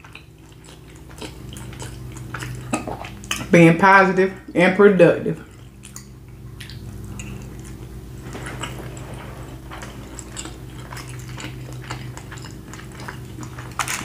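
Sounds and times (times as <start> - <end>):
person chewing food: 0.0 - 3.5, 5.4 - 14.0
low hum: 0.0 - 14.0.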